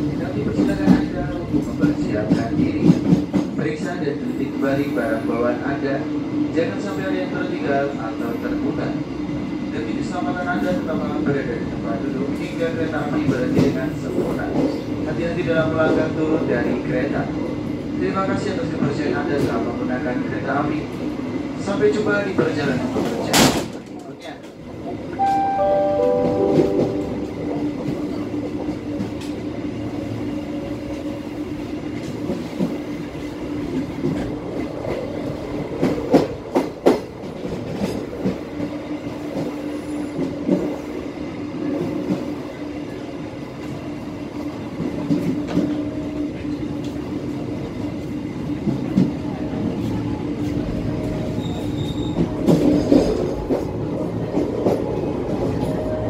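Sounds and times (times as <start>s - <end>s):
train rumbling hum: 0.0s - 5.5s, 8.3s - 56.0s.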